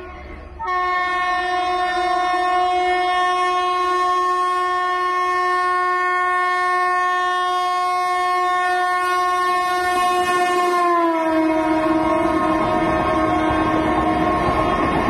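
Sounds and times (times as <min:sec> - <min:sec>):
approaching train rumble: 0:00.0 - 0:15.0
train horn blast: 0:00.6 - 0:15.0.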